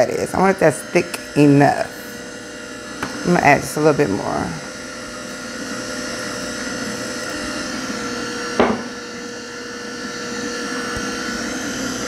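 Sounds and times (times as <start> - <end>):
juicer motor humming: 0.0 - 12.0.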